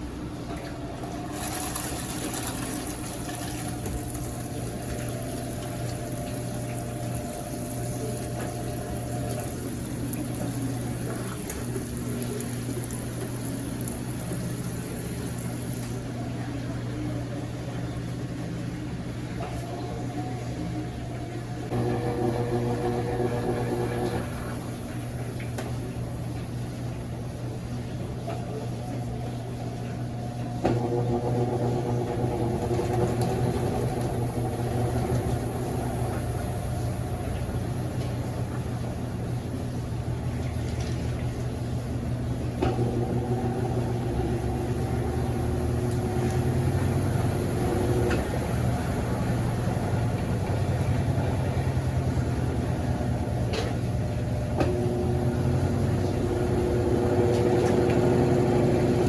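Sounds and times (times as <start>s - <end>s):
drain pump humming: 0.0s - 59.0s.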